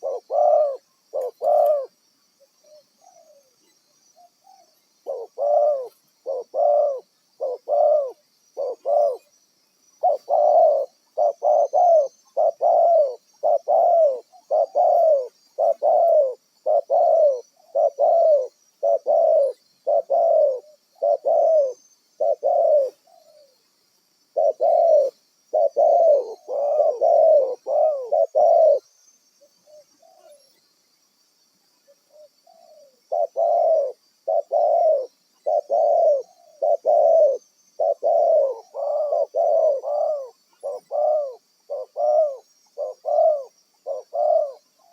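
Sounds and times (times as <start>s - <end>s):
dove cooing: 0.0s - 23.6s, 24.3s - 30.6s, 31.8s - 44.9s.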